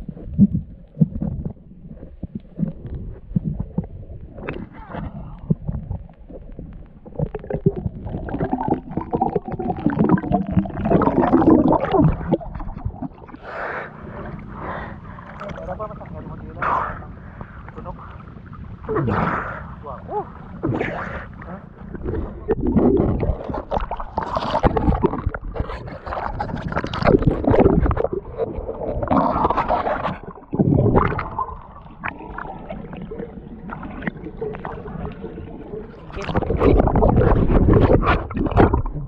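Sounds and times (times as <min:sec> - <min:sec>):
muffled splashing: 0:00.0 - 0:39.0
water sloshing and gurgling: 0:00.0 - 0:39.0.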